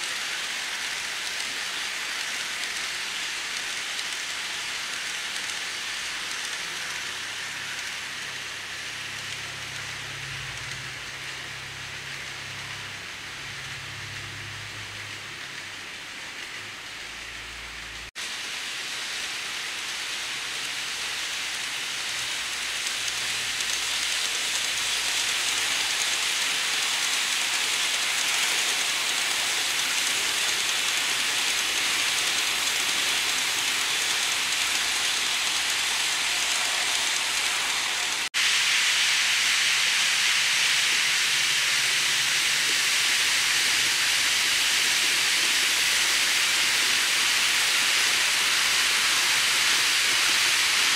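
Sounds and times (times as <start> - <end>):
model train rolling hiss: 0.0 - 50.9.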